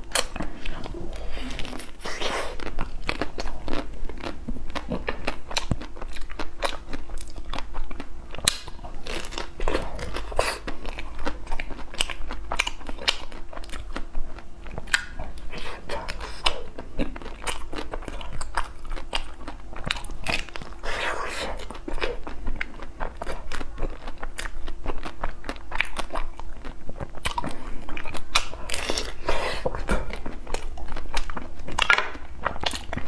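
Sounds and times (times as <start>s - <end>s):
crunching frozen ice cream: 0.0s - 33.0s.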